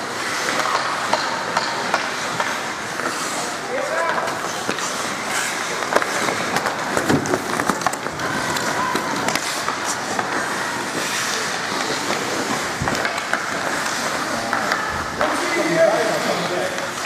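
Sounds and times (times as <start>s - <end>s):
skates scraping ice: 0.0s - 17.0s
sticks and puck clacking: 0.0s - 17.0s
faint voices: 2.9s - 17.0s.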